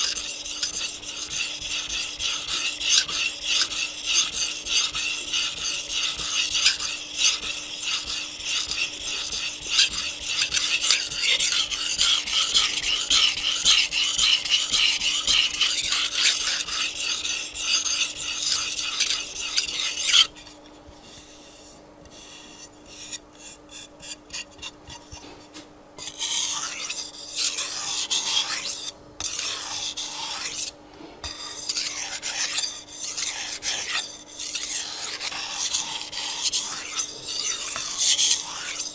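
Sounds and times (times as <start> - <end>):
knife rasping on whetstone: 0.0 - 25.3, 26.0 - 38.9.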